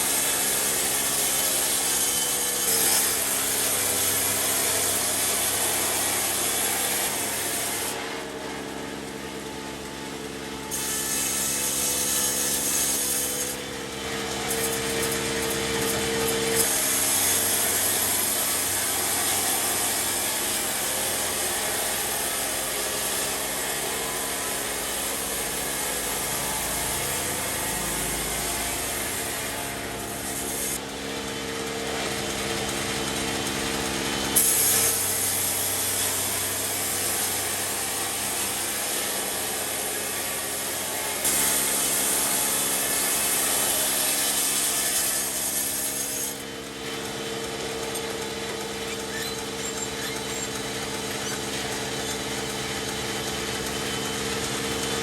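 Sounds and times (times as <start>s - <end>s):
saw cutting through wood: 0.0s - 55.0s
steady motor hum: 0.0s - 55.0s.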